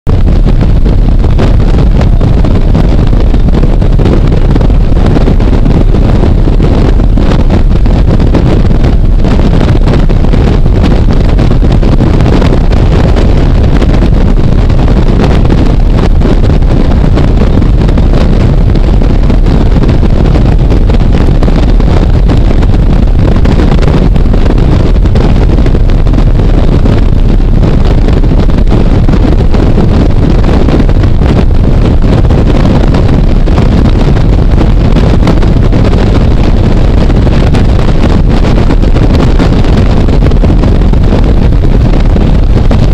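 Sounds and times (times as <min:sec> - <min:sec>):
wind rushing over microphone: 0:00.0 - 0:42.9.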